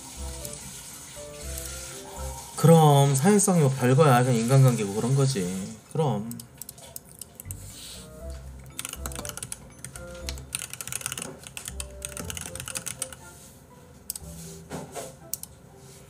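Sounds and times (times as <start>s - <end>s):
background music: 0.0s - 6.4s, 7.3s - 16.0s.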